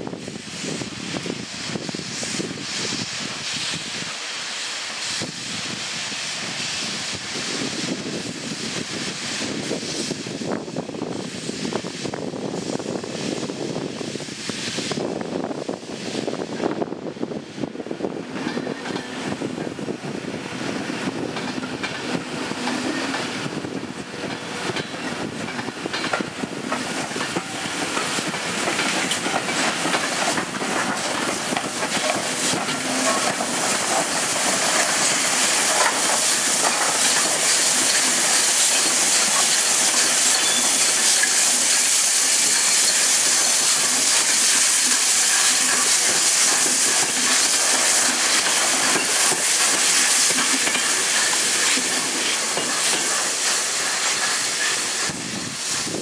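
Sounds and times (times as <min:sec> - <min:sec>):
loud steam hiss: 0:00.0 - 0:56.0
steam locomotive rolling slowly: 0:00.0 - 0:56.0.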